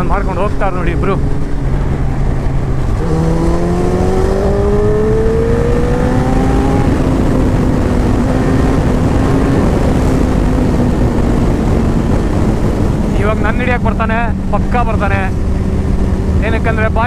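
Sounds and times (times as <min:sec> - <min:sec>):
motorcycle engine accelerating: 0:00.0 - 0:17.0
wind rush: 0:00.0 - 0:17.0.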